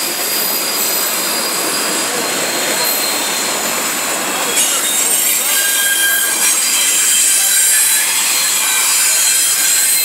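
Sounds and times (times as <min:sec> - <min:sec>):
high-pitched wheel squeal: 0:00.0 - 0:10.0
steel wheels rushing on rail: 0:00.0 - 0:10.0.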